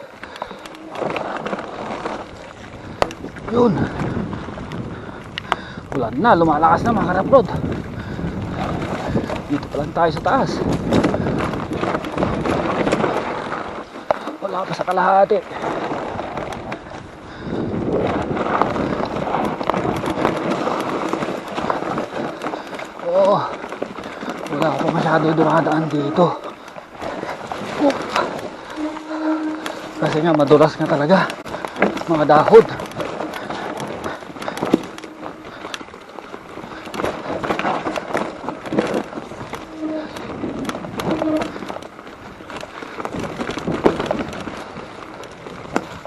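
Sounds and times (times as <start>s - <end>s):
wind on microphone: 0.0s - 14.4s, 15.4s - 46.0s
bike rattling and knocking: 0.0s - 46.0s
tyres rolling on dirt: 0.0s - 46.0s.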